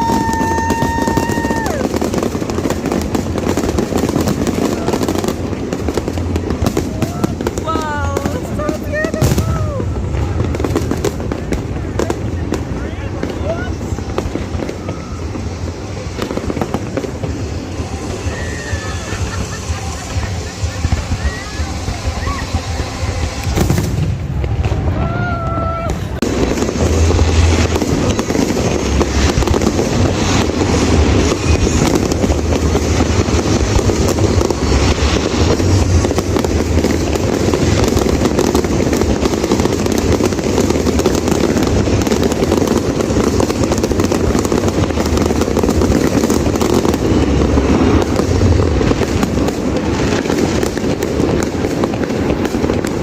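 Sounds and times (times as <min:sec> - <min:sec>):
fireworks booming: 0:00.0 - 0:53.0
fireworks crackling: 0:00.0 - 0:53.0.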